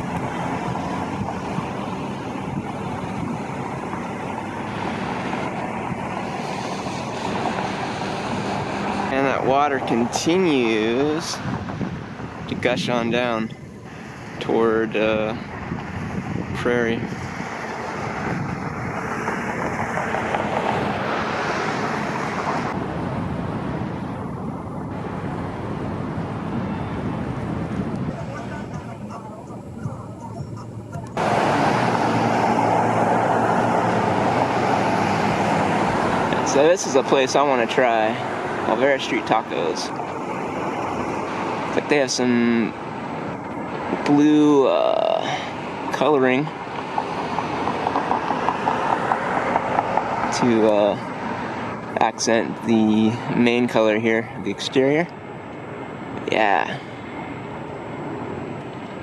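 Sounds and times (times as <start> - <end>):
street traffic rushing: 0.0 - 59.0.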